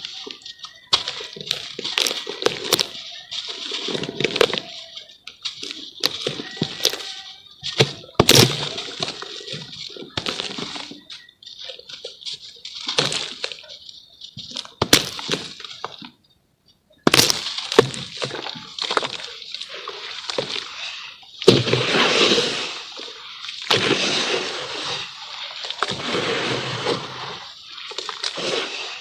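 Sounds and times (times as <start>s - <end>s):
charcoal crumbling and cracking: 0.0s - 16.2s, 17.0s - 29.0s.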